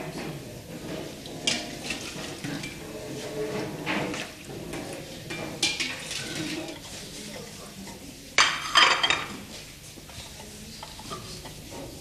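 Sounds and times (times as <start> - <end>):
dishes and cutlery clattering: 0.0 - 12.0.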